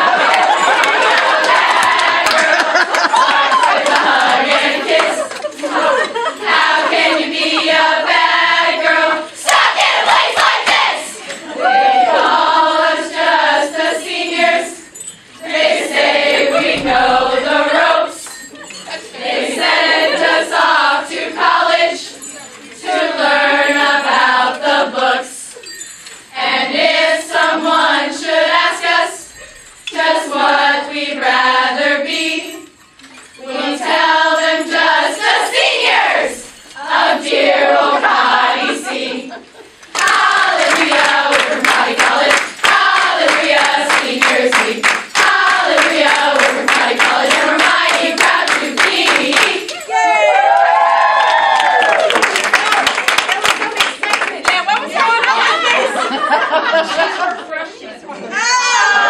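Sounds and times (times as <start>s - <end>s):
women singing together: 0.0s - 25.7s, 26.3s - 50.8s, 53.8s - 59.0s.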